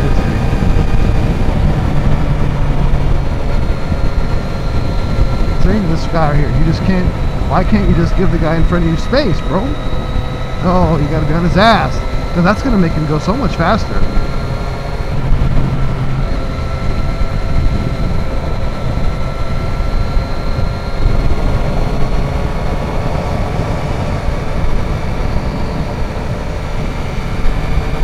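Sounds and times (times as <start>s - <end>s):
motorcycle engine droning: 0.0s - 28.0s
wind rushing over microphone: 0.0s - 28.0s.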